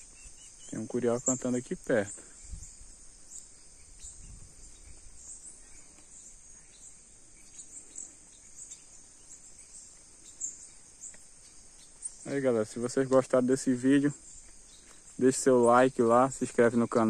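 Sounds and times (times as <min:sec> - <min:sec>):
bird chirps: 0:00.0 - 0:17.0
insects chirring: 0:00.0 - 0:17.0.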